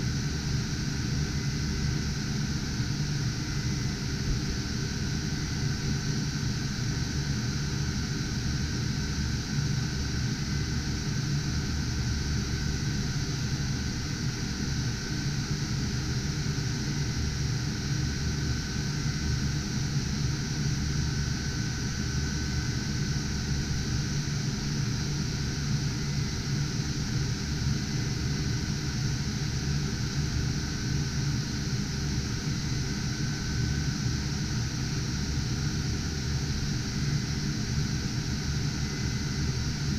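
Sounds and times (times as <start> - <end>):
cooling fans rushing: 0.0 - 39.9.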